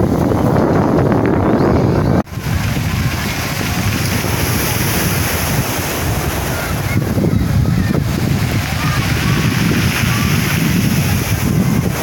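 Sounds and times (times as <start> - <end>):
sea surf washing in: 0.0 - 12.0
wind buffeting microphone: 0.0 - 12.0.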